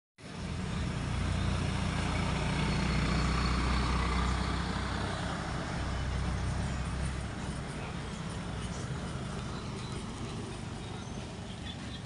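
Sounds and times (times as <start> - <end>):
traffic noise: 0.2 - 12.0
vehicle engine rumble: 0.2 - 12.0.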